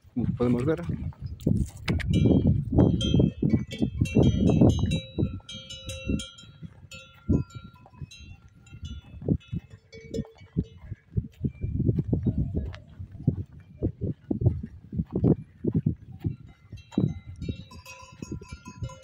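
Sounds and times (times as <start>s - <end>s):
cowbells clanking: 2.1s - 19.0s.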